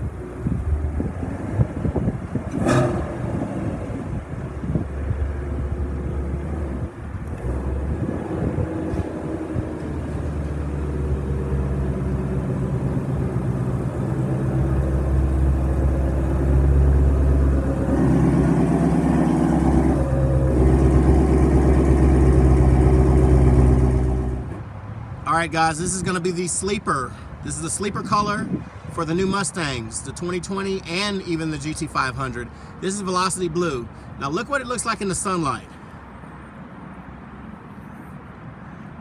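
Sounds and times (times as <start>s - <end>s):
car engine rumbling: 0.0s - 36.5s.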